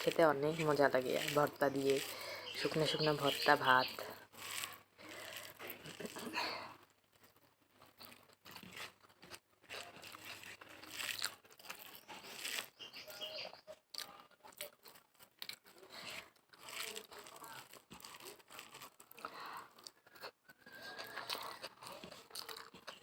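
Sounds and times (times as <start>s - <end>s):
chewing and mouth smacking: 0.0s - 23.0s
food crunching: 0.0s - 23.0s.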